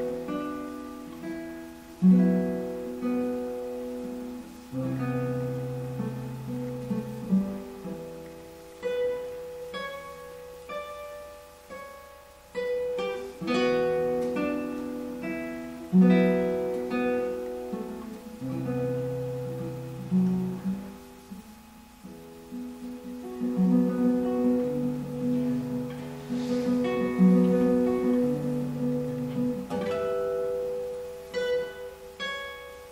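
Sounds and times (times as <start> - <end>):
fingerstyle classical guitar: 0.0 - 32.9.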